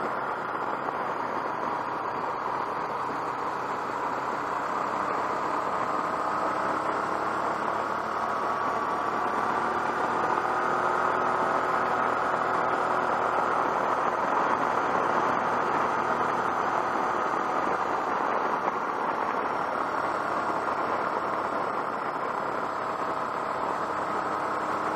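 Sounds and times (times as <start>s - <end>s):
motorcycle engine hum: 0.0s - 24.9s.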